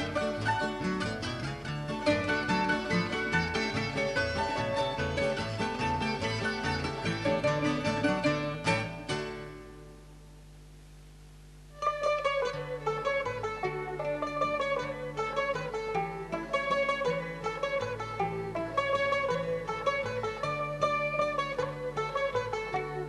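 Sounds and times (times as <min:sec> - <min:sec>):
instrumental background music: 0:00.0 - 0:09.9, 0:11.8 - 0:23.0.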